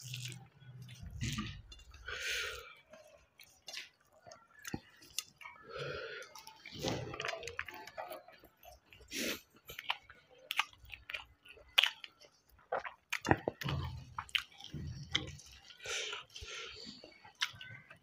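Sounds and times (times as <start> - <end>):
chewing: 0.0 - 18.0
wet squishing of rice: 0.0 - 18.0.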